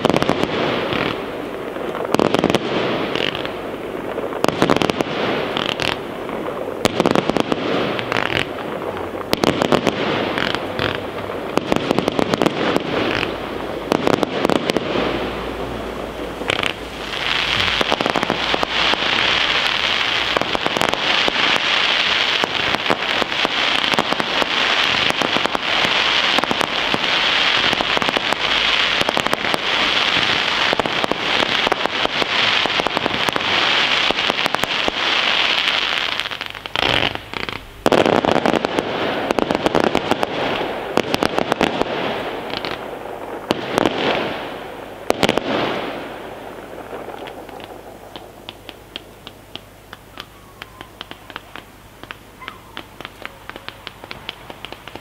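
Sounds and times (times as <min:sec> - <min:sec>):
fireworks pops and bangs: 0:00.0 - 0:55.0.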